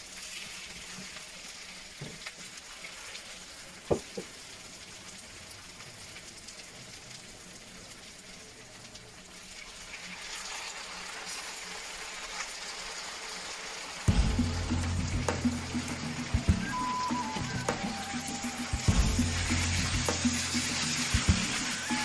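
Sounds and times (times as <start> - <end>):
stir-fry sizzling in a frying pan: 0.0 - 22.0.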